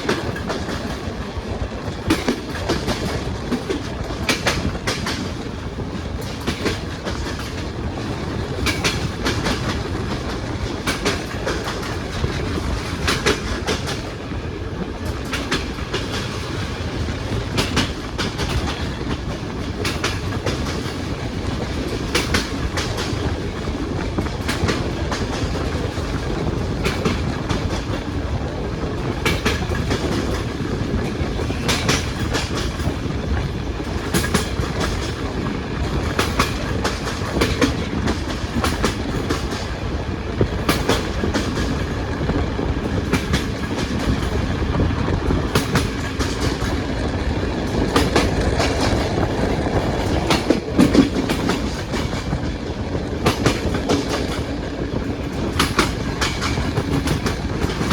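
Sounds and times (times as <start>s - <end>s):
low train rumble: 0.0s - 57.9s
train wheels clattering over rail joints: 0.0s - 57.9s.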